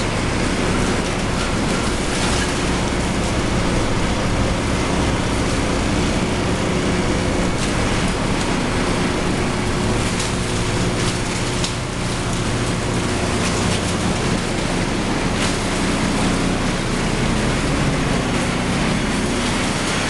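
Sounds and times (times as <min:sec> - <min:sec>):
diesel engine running steadily: 0:00.0 - 0:20.0
loud mechanical rush: 0:00.0 - 0:20.0.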